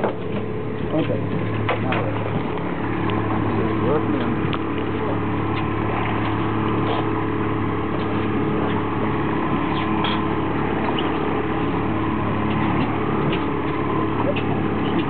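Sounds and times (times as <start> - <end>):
boat engine running: 0.0 - 15.0
water washing along hull: 0.0 - 15.0.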